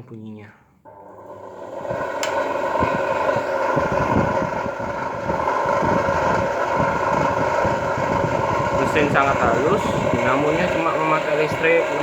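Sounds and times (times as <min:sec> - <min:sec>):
spinning machine motor hum: 0:00.9 - 0:12.0.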